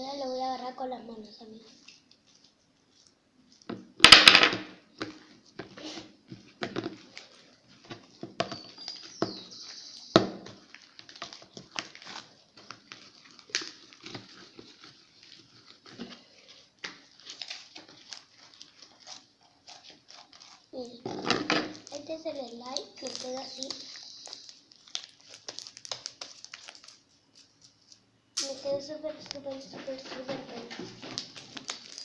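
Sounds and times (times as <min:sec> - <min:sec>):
slime squelching: 0:04.8 - 0:32.0.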